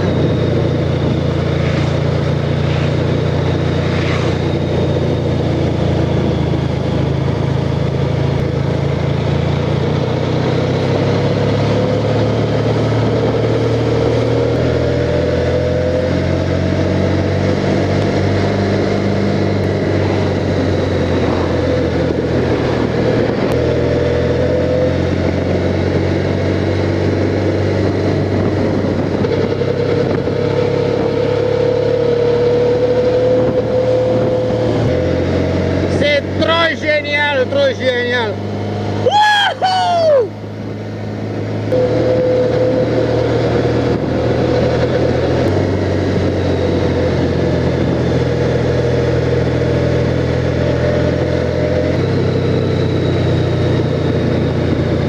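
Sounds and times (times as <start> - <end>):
motorcycle engine riding: 0.0 - 55.0.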